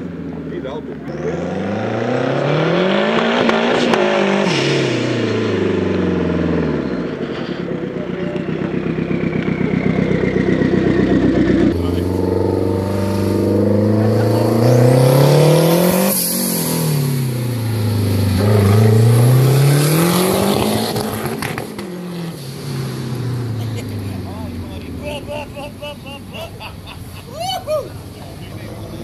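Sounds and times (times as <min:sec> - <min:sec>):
car engine revving: 0:00.0 - 0:27.1.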